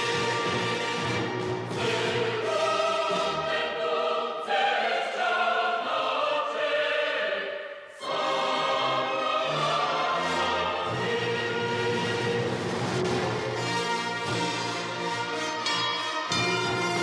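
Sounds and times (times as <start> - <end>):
choir with orchestra: 0.0 - 17.0.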